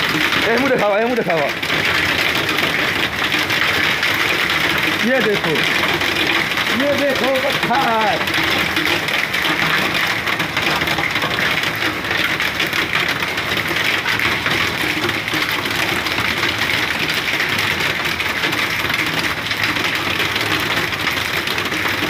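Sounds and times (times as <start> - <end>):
hailstones pelting down: 0.0 - 22.0.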